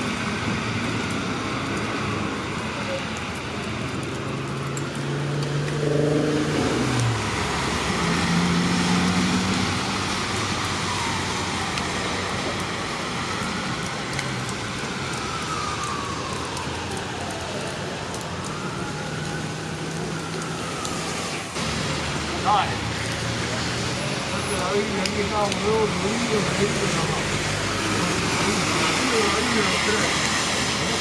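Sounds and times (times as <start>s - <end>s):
car engines: 0.0s - 31.0s
steady rain: 0.0s - 31.0s
tyres hissing on wet pavement: 0.0s - 31.0s.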